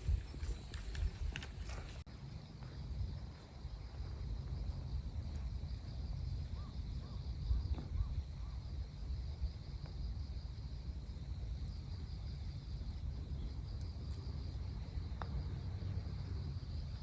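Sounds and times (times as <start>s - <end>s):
insects chirring: 0.0s - 17.0s
wind buffeting microphone: 0.0s - 17.0s.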